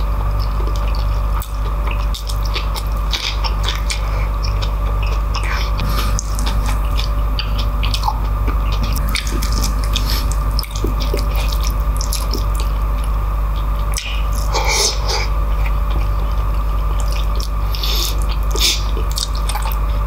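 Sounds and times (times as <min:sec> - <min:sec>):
steady low hum: 0:00.0 - 0:20.0
wet chewing and lip smacks: 0:00.4 - 0:19.9.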